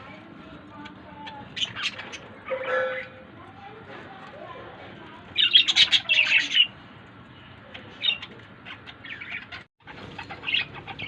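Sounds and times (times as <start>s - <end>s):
parakeets chirping: 0.0s - 3.8s, 4.7s - 11.0s.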